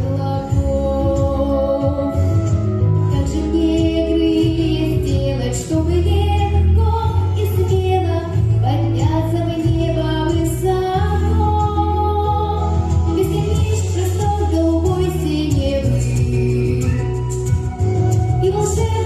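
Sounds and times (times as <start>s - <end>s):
instrumental backing with bass line: 0.0s - 19.0s
woman singing: 0.0s - 19.0s.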